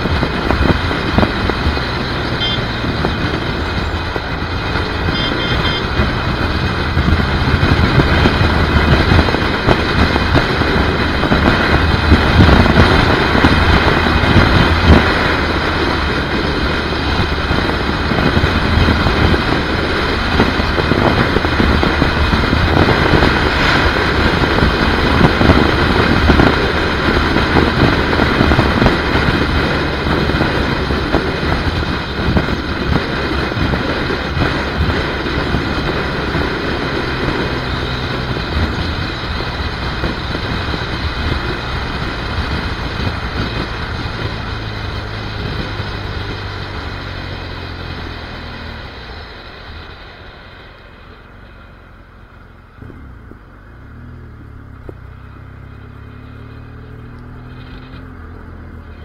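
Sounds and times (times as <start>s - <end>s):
motorcycle engine humming: 0.0s - 59.0s
passing highway traffic: 0.0s - 59.0s
wind and road rush: 0.0s - 59.0s.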